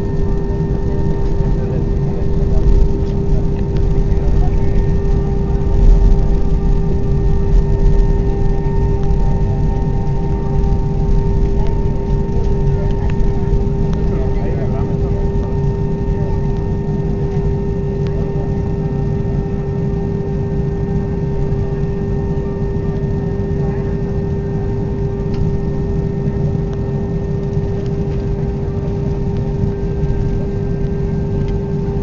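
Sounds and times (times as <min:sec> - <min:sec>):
aircraft cabin low rumble: 0:00.0 - 0:32.0
mid-pitched hum: 0:00.0 - 0:32.0.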